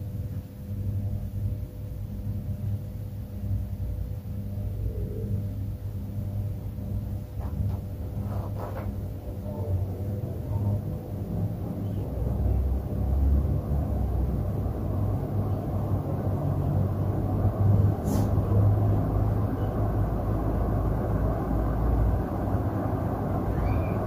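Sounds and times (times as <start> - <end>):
ceiling fans whooshing air: 0.0 - 24.0.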